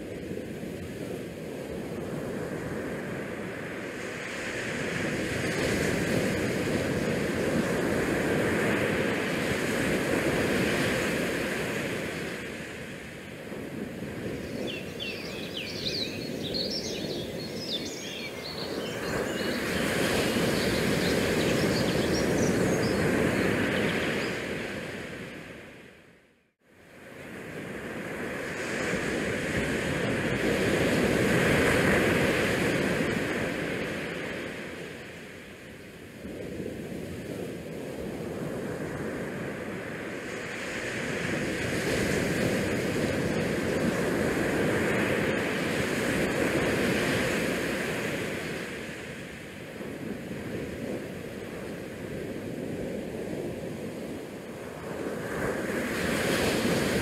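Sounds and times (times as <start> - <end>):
wind rushing over microphone: 0.0 - 26.1, 26.9 - 57.0.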